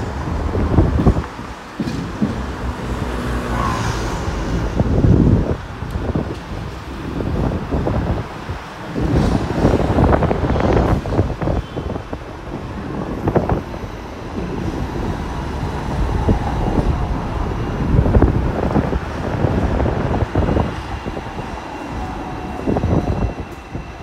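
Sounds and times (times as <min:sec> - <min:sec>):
knocks and rattles from tram: 0:00.0 - 0:24.0
tram rumbling on rails: 0:00.0 - 0:24.0
wind buffeting microphone: 0:00.0 - 0:24.0.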